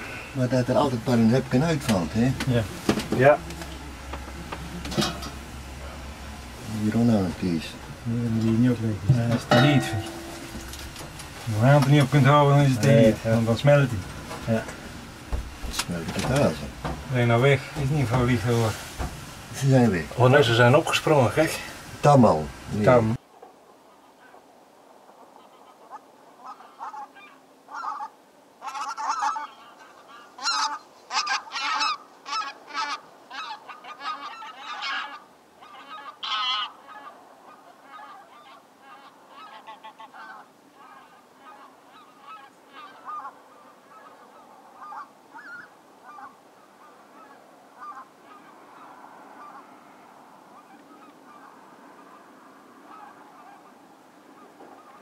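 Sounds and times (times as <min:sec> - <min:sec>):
geese honking: 0:00.0 - 0:20.7, 0:25.3 - 0:55.0.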